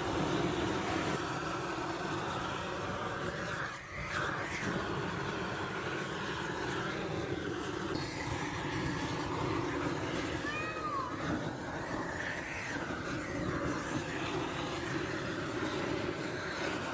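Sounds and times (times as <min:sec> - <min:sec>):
gas torch rushing: 0:00.0 - 0:16.9.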